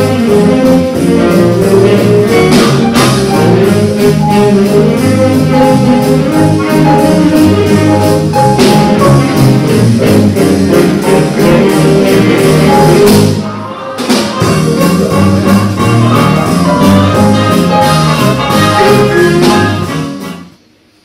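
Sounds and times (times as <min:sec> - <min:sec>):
big band playing jazz: 0:00.0 - 0:21.0.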